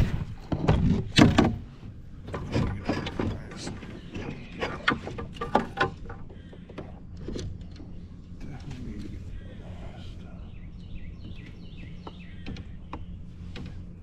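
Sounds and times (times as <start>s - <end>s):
knocks and rattles against kayak hull: 0.0s - 9.1s, 11.1s - 14.0s.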